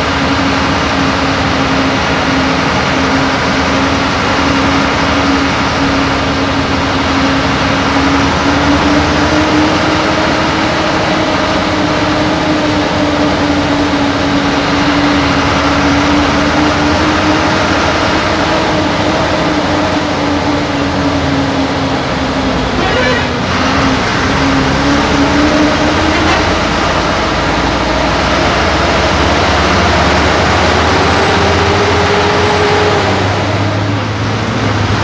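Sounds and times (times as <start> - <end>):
bus diesel engine droning: 0.0 - 35.0
road noise: 0.0 - 35.0.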